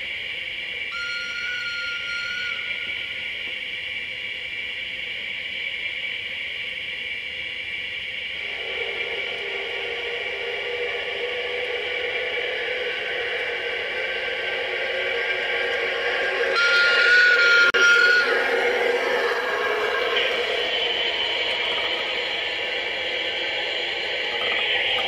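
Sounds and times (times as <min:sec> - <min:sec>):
model locomotive running: 0:00.0 - 0:25.0
high whistle: 0:00.1 - 0:25.0.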